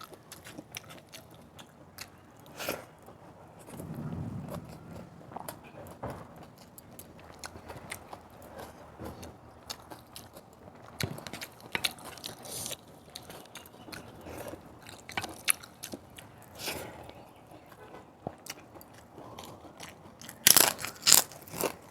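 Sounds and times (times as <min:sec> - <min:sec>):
person chewing crunchy food: 0:00.0 - 0:21.9.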